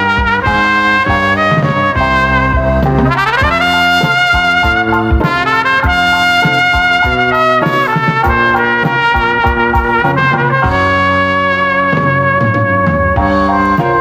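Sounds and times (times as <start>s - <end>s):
dance band music: 0.0s - 14.0s
trumpet playing melody: 0.0s - 14.0s.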